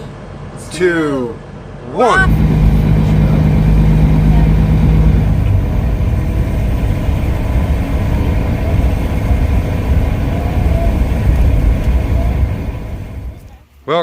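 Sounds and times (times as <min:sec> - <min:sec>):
road noise: 0:00.0 - 0:13.7
truck diesel engine rumble: 0:02.0 - 0:13.6.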